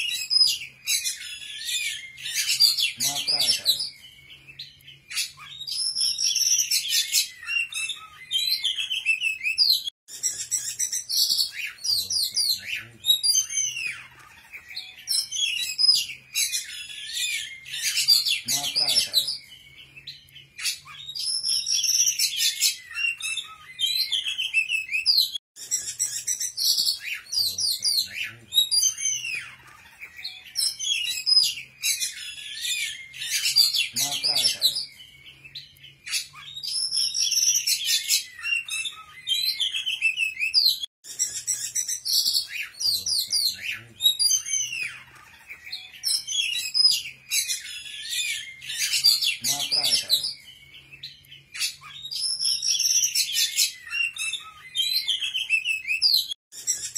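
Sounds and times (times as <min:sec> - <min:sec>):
songbird chirping and trilling: 0:00.0 - 0:56.9.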